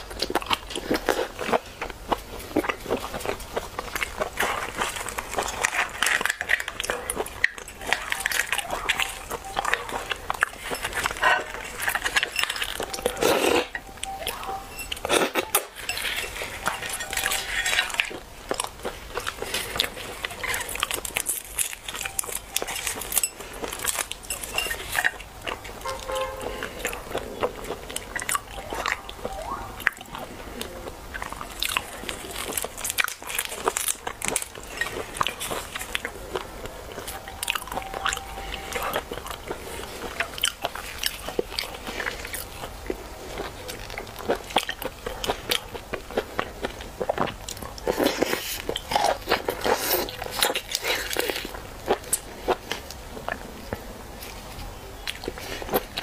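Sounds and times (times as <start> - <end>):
shrimp shells cracking: 0.0 - 53.0
chewing: 0.0 - 56.0.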